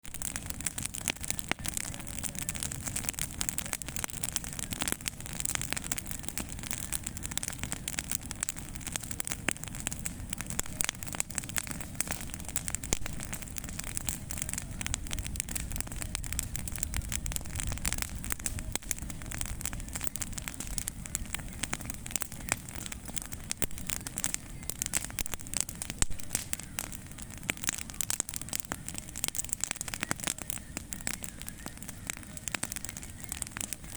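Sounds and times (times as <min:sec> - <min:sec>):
bonfire crackling and popping: 0:00.0 - 0:33.9
rush of flame: 0:00.0 - 0:33.9.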